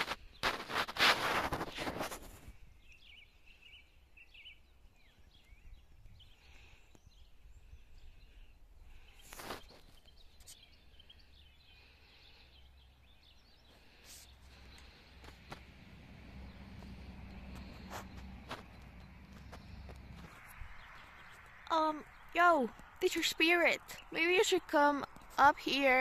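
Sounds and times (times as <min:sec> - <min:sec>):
small birds chirping in distance: 0:00.0 - 0:26.0.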